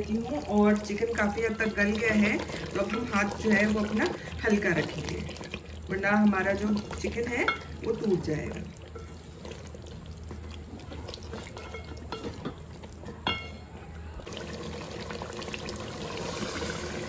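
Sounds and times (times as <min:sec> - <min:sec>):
food bubbling and frying: 0:00.0 - 0:17.0.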